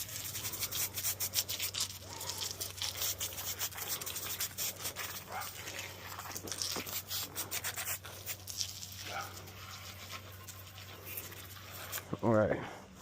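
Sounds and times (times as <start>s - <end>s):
foam cleaner fizzing and crackling: 0.0s - 12.2s.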